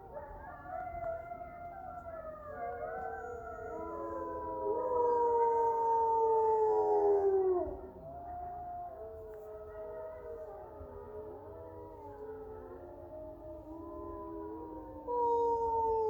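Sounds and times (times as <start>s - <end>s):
wolves howling in chorus: 0.0s - 16.0s.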